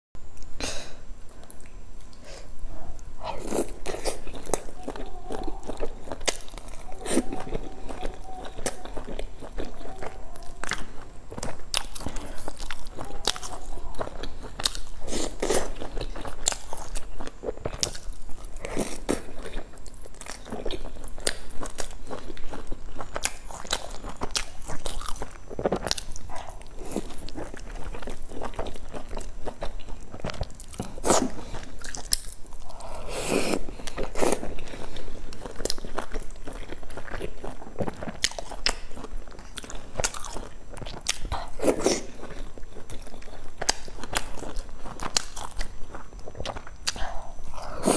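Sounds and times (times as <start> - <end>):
person biting and chewing food: 3.0 - 47.9.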